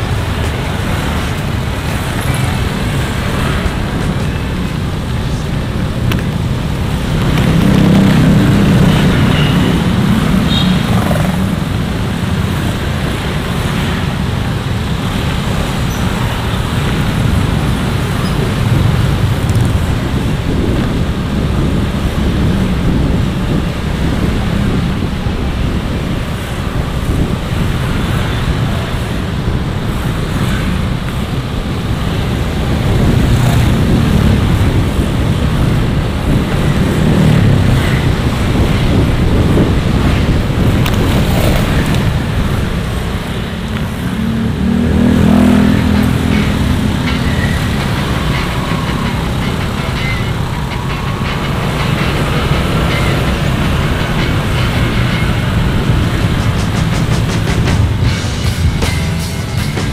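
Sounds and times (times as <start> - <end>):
motorcycle engine and road noise: 0.0 - 59.9.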